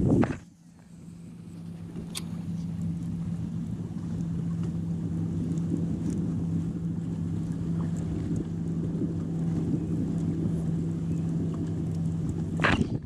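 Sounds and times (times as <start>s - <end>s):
electric boat motor humming: 0.0s - 13.0s
wind buffeting microphone: 0.0s - 13.0s.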